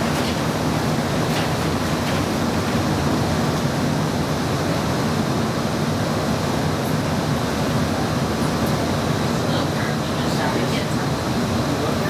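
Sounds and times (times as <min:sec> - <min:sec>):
streetcar rushing rumble: 0:00.0 - 0:12.0.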